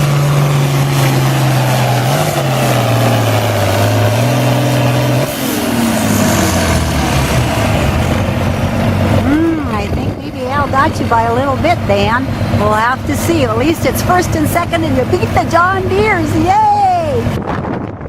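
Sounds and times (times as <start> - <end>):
tractor engine under heavy load: 0.0 - 18.0.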